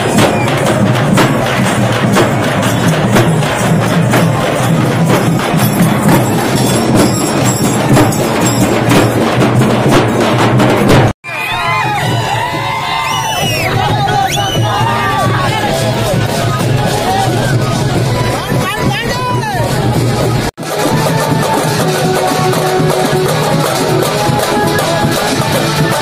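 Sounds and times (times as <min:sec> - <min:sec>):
folk drums playing: 0:00.0 - 0:26.0.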